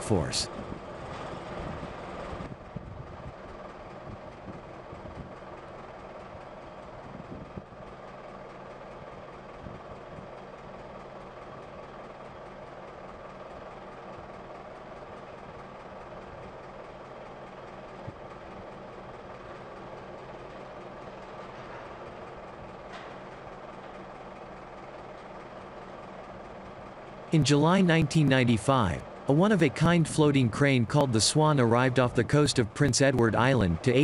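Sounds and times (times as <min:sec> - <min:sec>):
construction machinery engines droning: 0:00.0 - 0:34.0.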